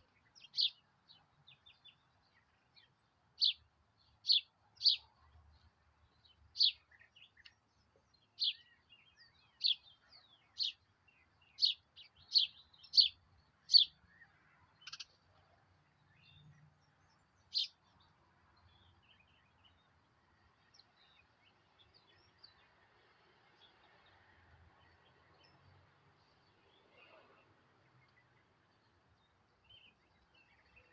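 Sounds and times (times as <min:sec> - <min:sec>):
bird chirping: 0:00.0 - 0:20.0, 0:24.8 - 0:30.9.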